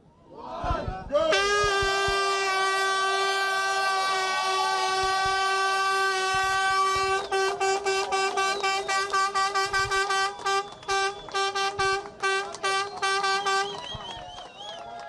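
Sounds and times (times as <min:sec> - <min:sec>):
air horn blasts: 0:01.3 - 0:13.9.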